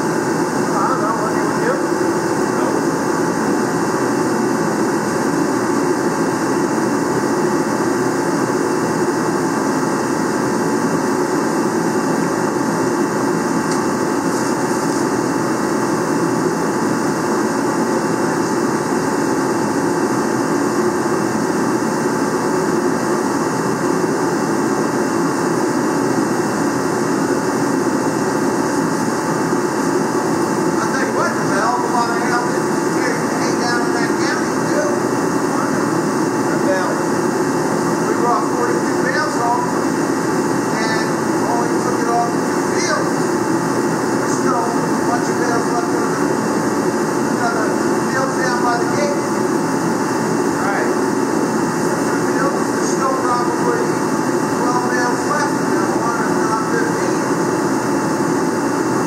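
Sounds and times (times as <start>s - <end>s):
machine drone: 0.0s - 59.0s.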